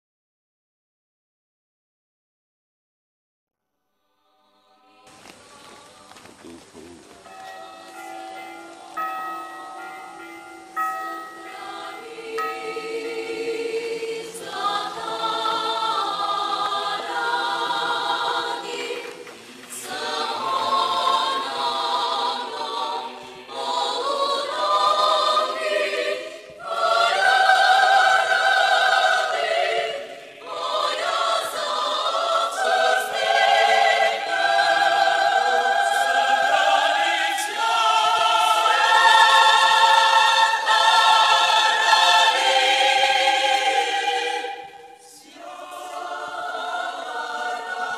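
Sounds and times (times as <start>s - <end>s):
choir singing unaccompanied: 4.3s - 47.9s.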